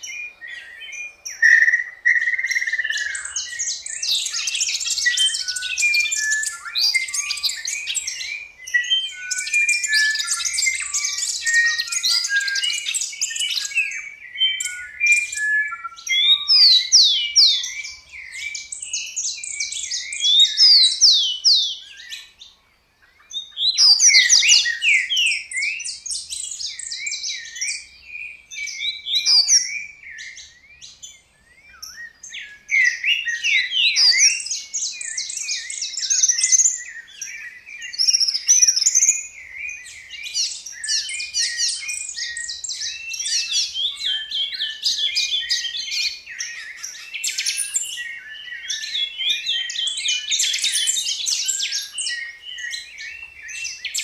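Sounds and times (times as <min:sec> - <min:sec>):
songbirds chirping and warbling: 0:00.0 - 0:54.0.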